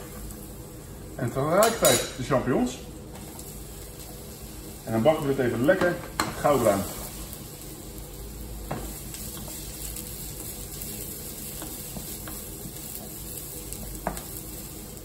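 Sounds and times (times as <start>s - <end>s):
mushrooms sizzling in oil: 0.0s - 15.0s.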